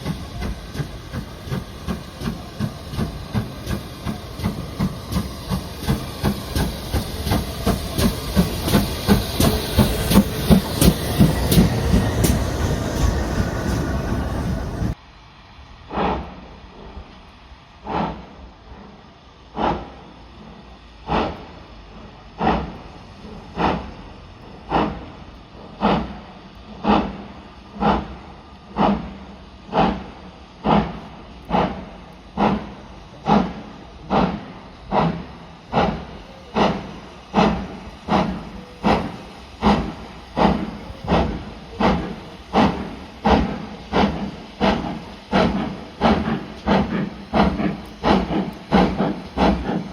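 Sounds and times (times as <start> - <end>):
steam hissing: 0.0 - 49.9
steam locomotive exhaust beats: 0.0 - 49.9.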